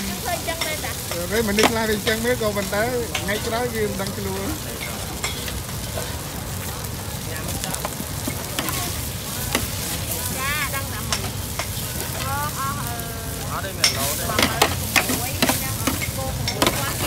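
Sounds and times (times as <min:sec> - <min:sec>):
stirring clatters: 0:00.0 - 0:06.1, 0:07.9 - 0:12.4, 0:13.6 - 0:17.0
food sizzling in a pan: 0:00.0 - 0:17.0.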